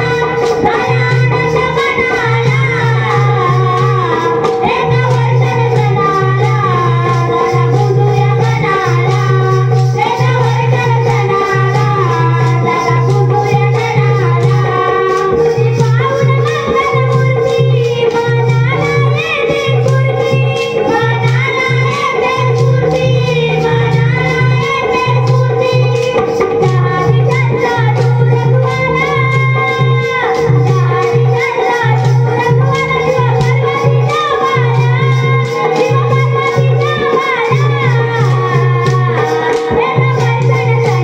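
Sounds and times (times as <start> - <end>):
pulsing bass line: 0.0 - 36.8
person singing: 0.0 - 41.0
quick steady percussion: 0.0 - 41.0.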